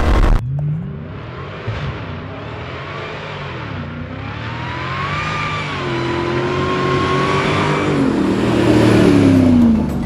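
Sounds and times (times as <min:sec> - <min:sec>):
vehicle engine driving by: 0:00.0 - 0:10.0.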